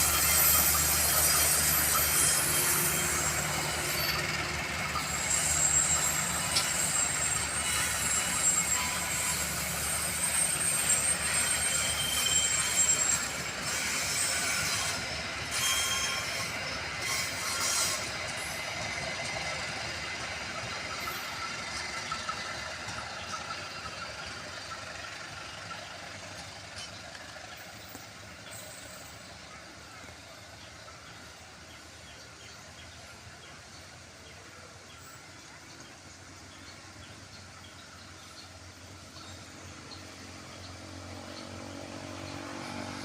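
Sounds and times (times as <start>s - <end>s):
train rattling rumble: 0.0s - 43.0s
train wheels squealing: 0.0s - 43.0s.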